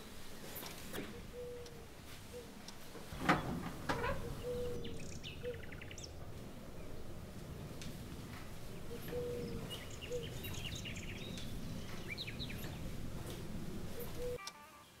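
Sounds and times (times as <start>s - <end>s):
small birds chirping: 0.0s - 14.4s
steady low rumble: 0.0s - 14.4s.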